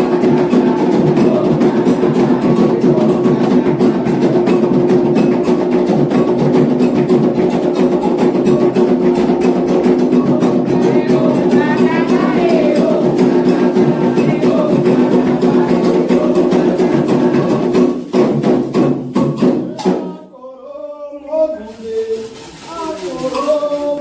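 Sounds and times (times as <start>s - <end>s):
hand drums playing fast rhythm: 0.0s - 20.2s
voices singing: 0.0s - 24.0s.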